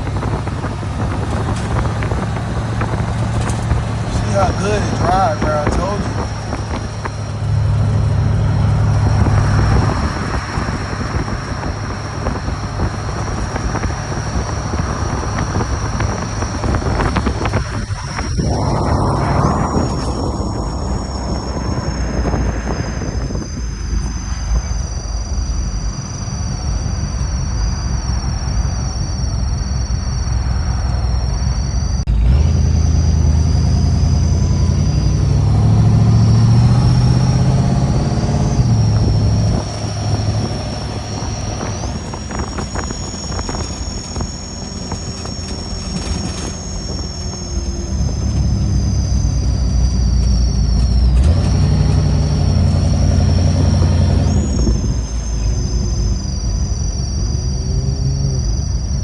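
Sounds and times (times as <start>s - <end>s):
thin high whine: 0.0s - 59.0s
vehicle rumble: 0.0s - 59.0s.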